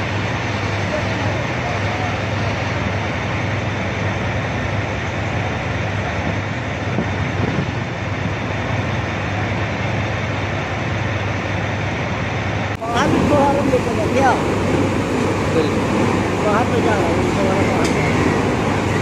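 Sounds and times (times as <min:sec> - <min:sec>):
truck engine hum: 0:00.0 - 0:19.0.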